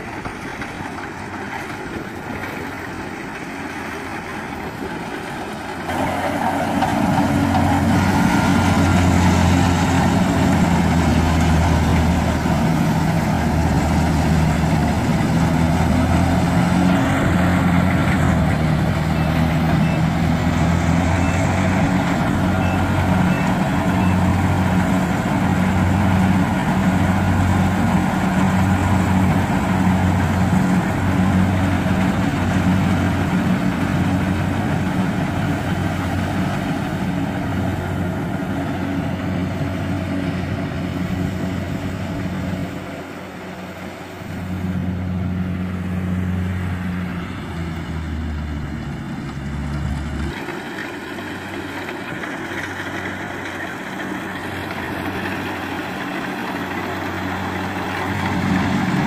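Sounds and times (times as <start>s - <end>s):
diesel engine hum: 0.0s - 59.0s.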